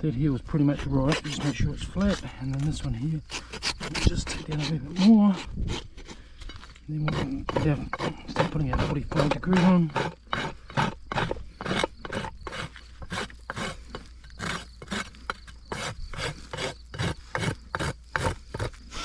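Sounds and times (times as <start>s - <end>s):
hoof rasp filing strokes: 0.6s - 19.0s.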